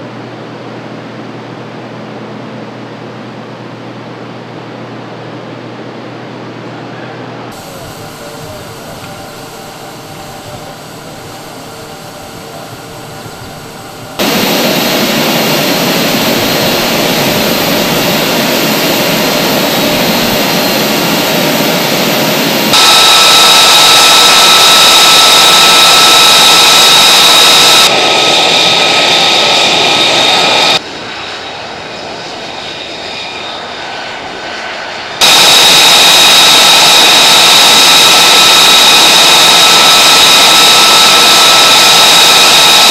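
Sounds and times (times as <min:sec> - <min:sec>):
high jet engine whine: 0:00.0 - 0:42.9
jet engine running: 0:07.5 - 0:42.9.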